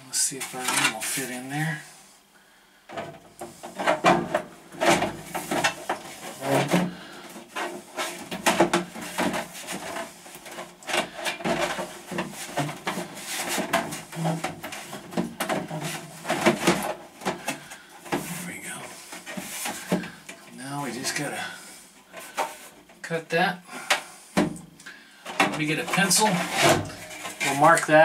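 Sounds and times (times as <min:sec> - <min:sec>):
plastic scraping and knocking on wood: 0:02.9 - 0:23.0, 0:23.8 - 0:28.0.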